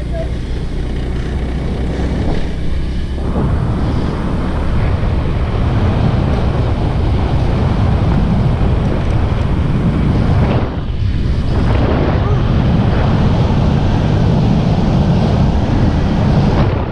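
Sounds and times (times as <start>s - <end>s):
vehicle running noise: 0.0s - 16.9s
wind buffeting microphone: 0.0s - 16.9s.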